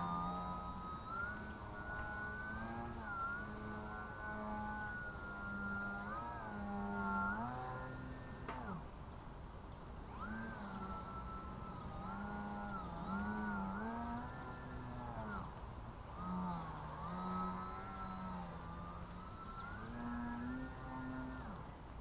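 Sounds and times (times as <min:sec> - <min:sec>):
electric model plane motor buzzing: 0:00.0 - 0:22.0.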